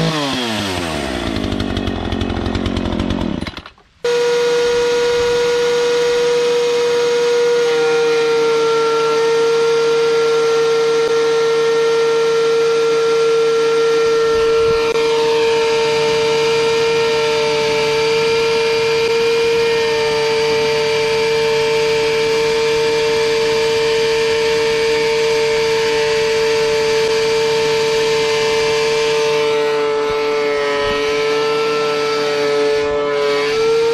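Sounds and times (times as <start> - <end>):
thickness planer whining: 0.0 - 33.9.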